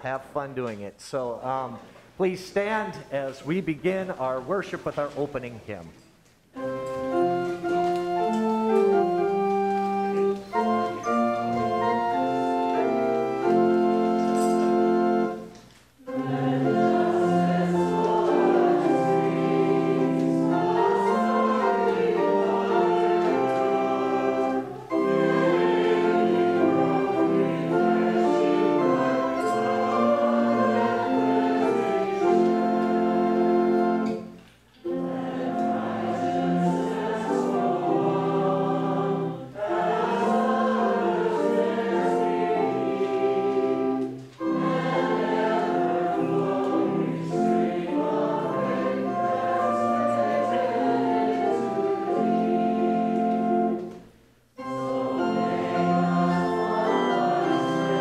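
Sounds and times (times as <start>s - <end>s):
organ accompaniment: 6.5s - 58.0s
congregation singing a hymn: 6.6s - 58.0s.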